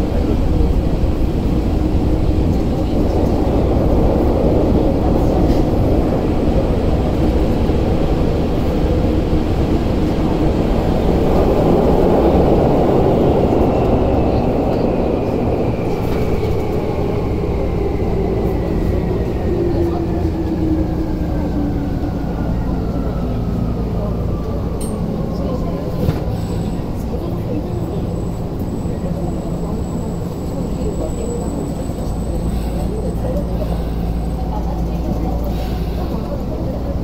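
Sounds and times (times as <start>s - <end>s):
falling whine of slowing train: 0.0s - 37.0s
train rumbling in tunnel: 0.0s - 37.0s.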